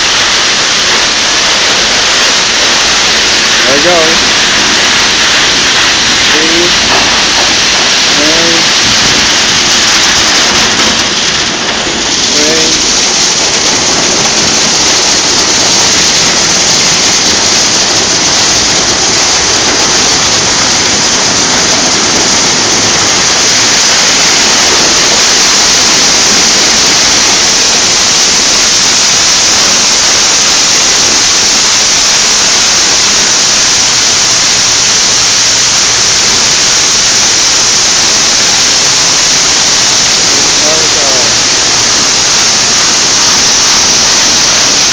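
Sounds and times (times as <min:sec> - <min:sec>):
water spraying onto a car: 0:00.0 - 0:44.9.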